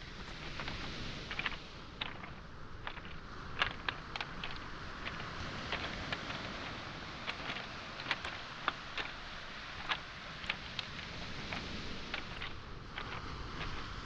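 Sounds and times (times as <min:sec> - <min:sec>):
footsteps on pebbles: 0:00.0 - 0:14.0
sea waves washing: 0:00.0 - 0:14.0.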